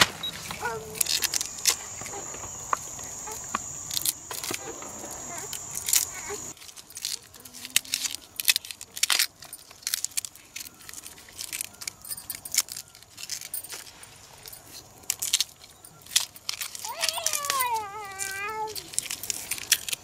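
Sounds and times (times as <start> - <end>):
bamboo shoots cracking and snapping: 0.0 - 2.9, 3.5 - 20.0.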